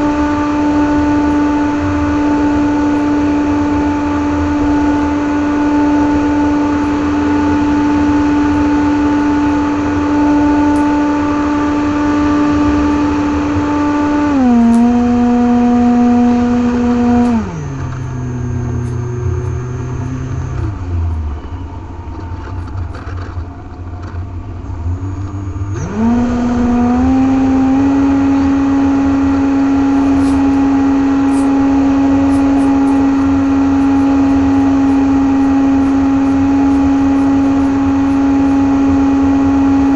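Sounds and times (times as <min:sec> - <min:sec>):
electric motor high whine: 0:00.0 - 0:39.9.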